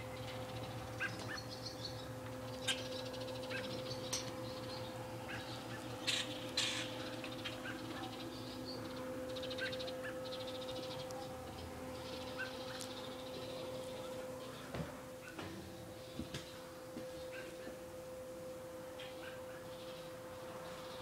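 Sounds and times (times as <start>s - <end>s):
birds chirping and trilling: 0.0s - 17.8s, 19.0s - 21.0s
steady low hum: 0.0s - 21.0s.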